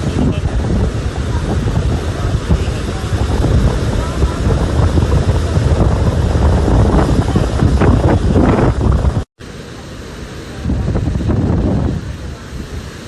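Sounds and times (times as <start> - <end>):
faint voices: 0.0 - 8.8, 9.4 - 13.0
wind buffeting microphone: 0.0 - 9.3, 10.5 - 13.0
roar of rushing water: 0.0 - 13.0.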